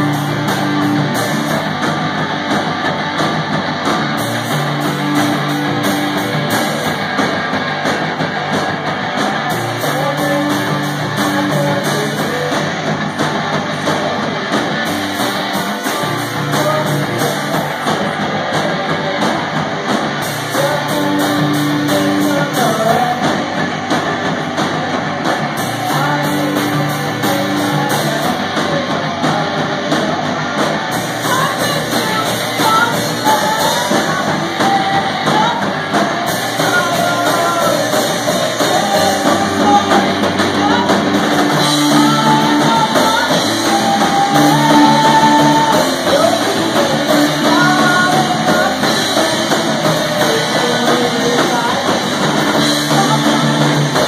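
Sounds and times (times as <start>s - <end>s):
bass riff: 0.0s - 54.0s
drum kit: 0.0s - 54.0s
electric guitars: 0.0s - 54.0s.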